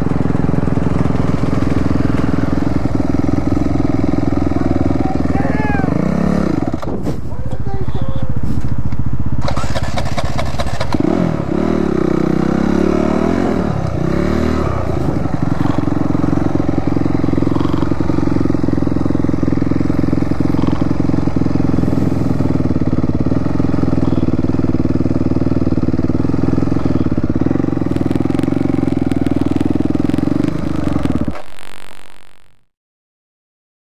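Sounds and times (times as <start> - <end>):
dirt bike engine revving: 0.0 - 7.0, 8.3 - 32.3.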